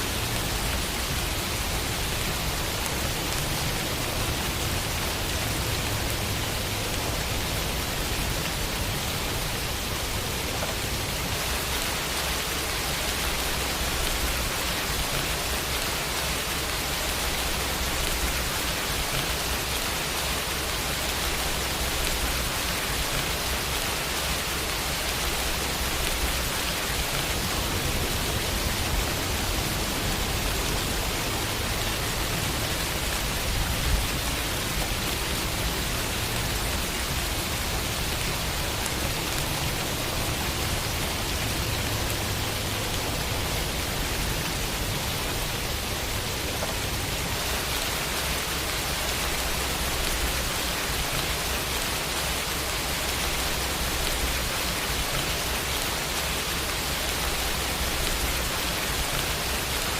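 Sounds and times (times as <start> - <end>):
rain falling on a window: 0.0 - 59.9.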